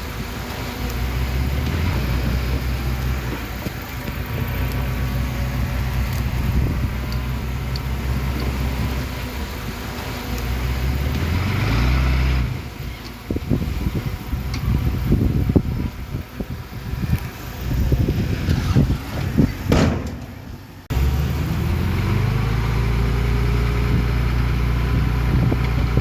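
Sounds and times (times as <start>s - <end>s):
heavy diesel engine revving: 0.0s - 26.0s.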